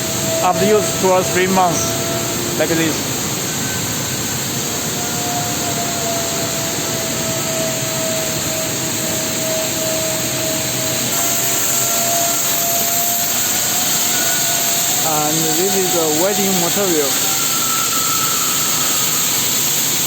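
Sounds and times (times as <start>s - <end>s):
faint steady whine: 0.0s - 20.0s
industrial machinery noise: 0.0s - 20.0s.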